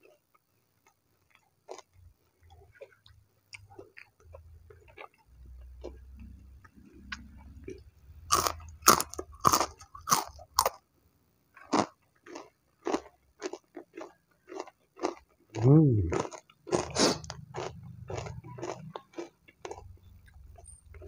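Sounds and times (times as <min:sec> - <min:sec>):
crunching of fried food: 0:00.0 - 0:10.9, 0:11.5 - 0:21.0
chewing crunches: 0:00.8 - 0:10.8, 0:11.6 - 0:21.0.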